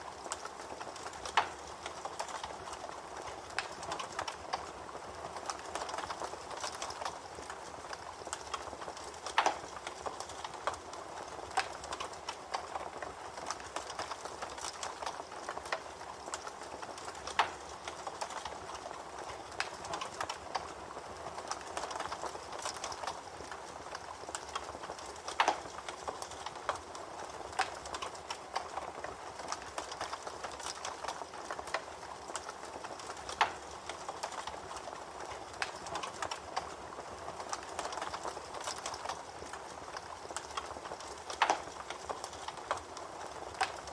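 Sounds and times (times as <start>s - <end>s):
campfire crackling: 0.0s - 43.9s
fire snapping: 0.0s - 43.9s.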